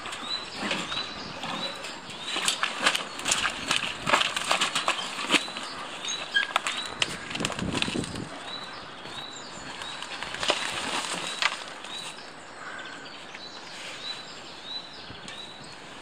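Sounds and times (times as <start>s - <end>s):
small birds calling: 0.0s - 16.0s
steady outdoor hiss: 0.0s - 16.0s.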